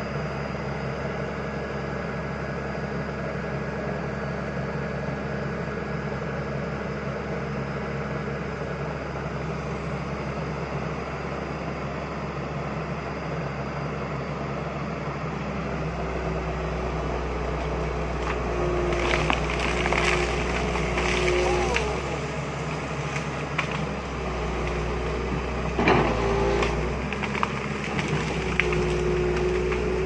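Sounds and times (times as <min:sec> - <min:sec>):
excavator diesel engine running: 0:00.0 - 0:30.0
steady high-pitched whine: 0:00.0 - 0:30.0.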